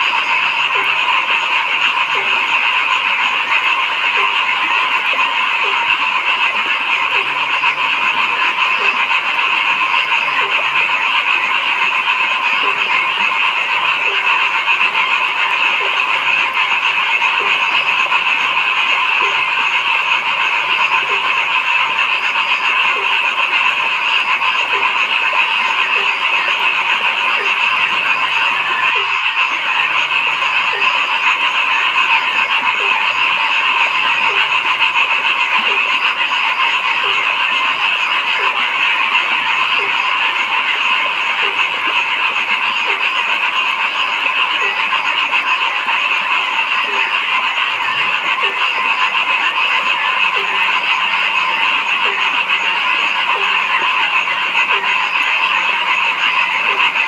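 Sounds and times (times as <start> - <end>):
chorus of frogs croaking: 0.0 - 57.0.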